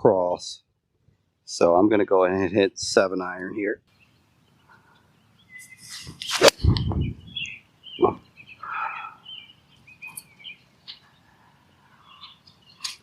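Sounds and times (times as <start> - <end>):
birds chirping: 1.1 - 13.0.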